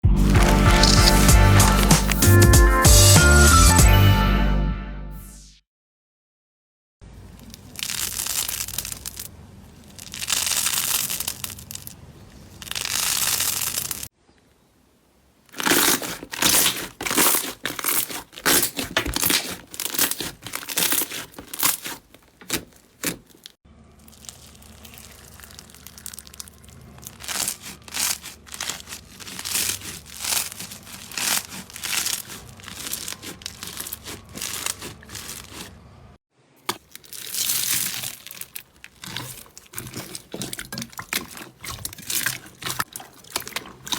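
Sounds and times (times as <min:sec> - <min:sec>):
slime crackling by hand: 0:00.2 - 0:02.4, 0:07.3 - 0:14.1, 0:15.5 - 0:35.8, 0:36.6 - 0:43.9.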